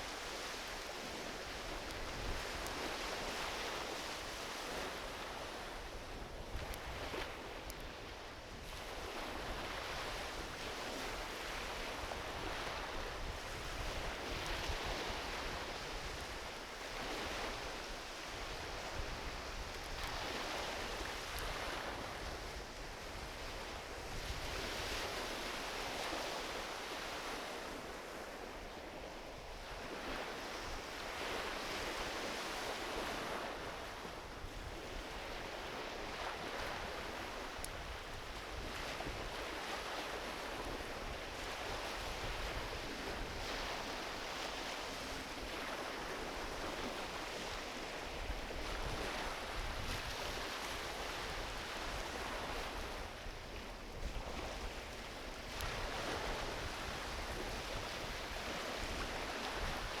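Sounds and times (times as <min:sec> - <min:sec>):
ocean waves washing onto beach: 0:00.0 - 1:00.0.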